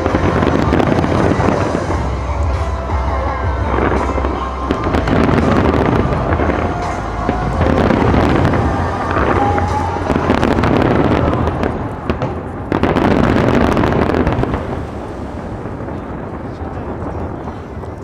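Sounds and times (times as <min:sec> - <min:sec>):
music playing: 0:00.0 - 0:16.9
fireworks bangs and crackles: 0:00.0 - 0:18.0.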